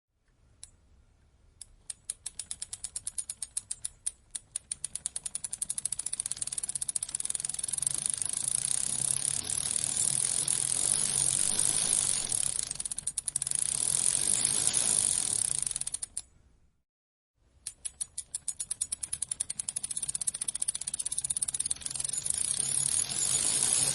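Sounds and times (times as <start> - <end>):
bicycle chain clicking: 2.0 - 16.3, 17.7 - 23.9.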